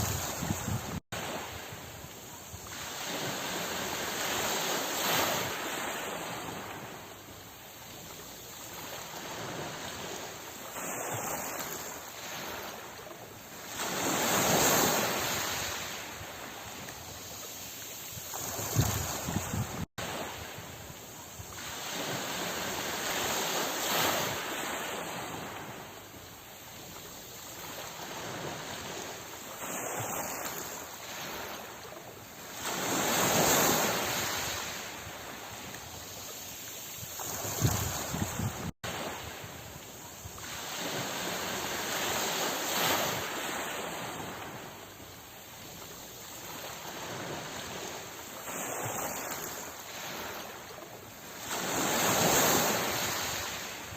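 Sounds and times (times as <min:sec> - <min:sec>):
sea waves washing on shore: 0:00.0 - 0:53.9.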